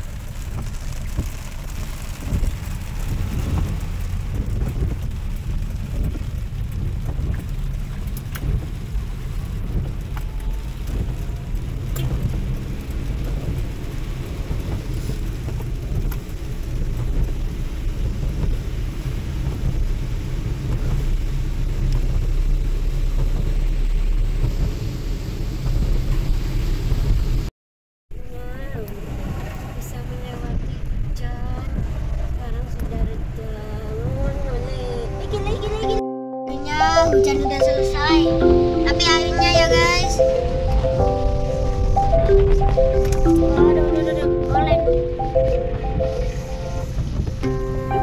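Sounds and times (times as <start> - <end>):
engine and tyres rumbling: 0.0 - 27.5, 28.1 - 48.0
rain hitting car: 0.0 - 27.5, 28.1 - 48.0.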